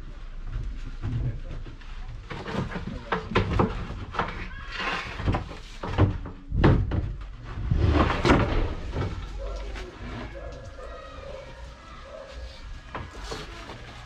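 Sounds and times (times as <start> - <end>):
plywood sheets clattering and scraping: 0.6 - 14.0.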